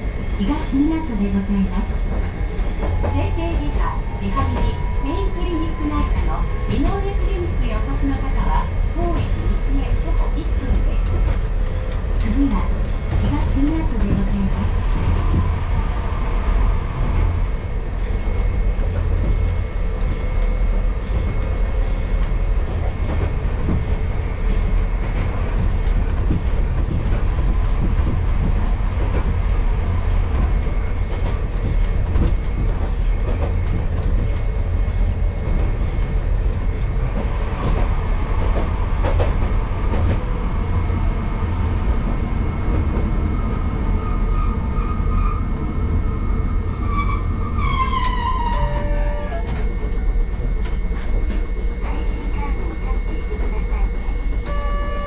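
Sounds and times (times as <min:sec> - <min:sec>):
rail joint clicks: 0:00.0 - 0:55.0
tram wheels rumbling on rail: 0:00.0 - 0:55.0.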